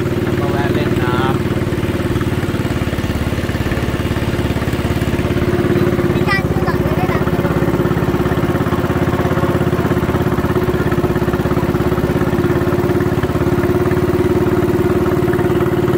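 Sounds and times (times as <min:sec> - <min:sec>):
boat engine puttering: 0:00.0 - 0:15.9.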